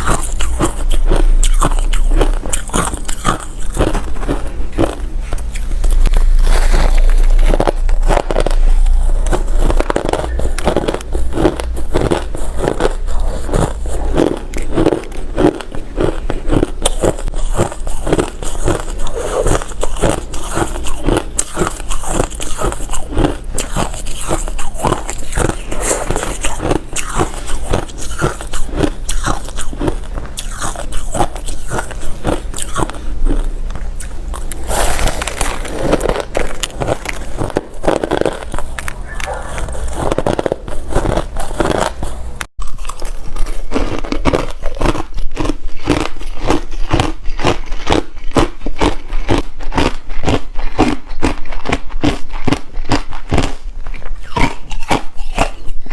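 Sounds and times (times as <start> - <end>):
ice crunched between teeth: 0.0 - 55.6.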